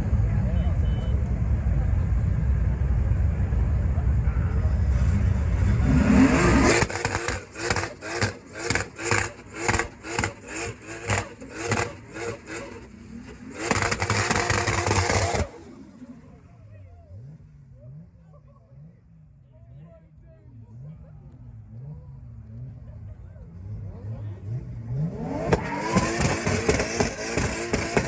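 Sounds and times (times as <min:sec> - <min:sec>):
car engine revving: 0:03.8 - 0:19.4, 0:20.6 - 0:28.0.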